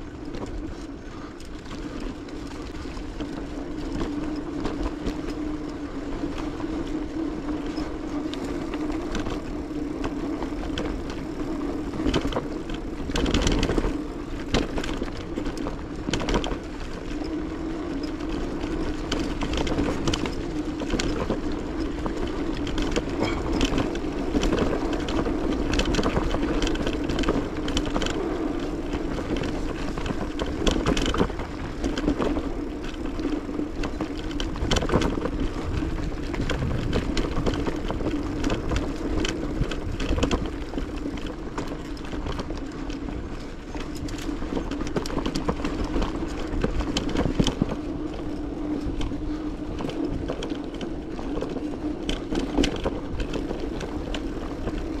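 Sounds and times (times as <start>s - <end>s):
bicycle tyres rolling: 0.0s - 55.0s
bike clicks and rattles: 0.0s - 55.0s.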